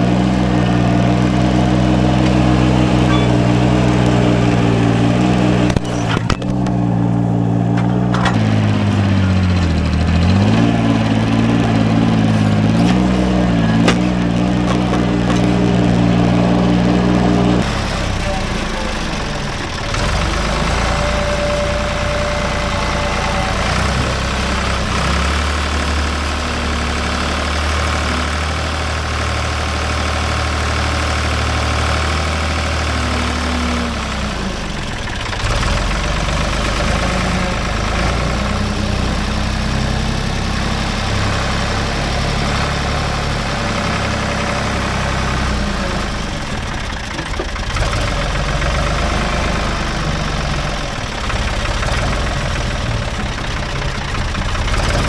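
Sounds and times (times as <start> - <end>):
backhoe engine under load: 0.0 - 55.0.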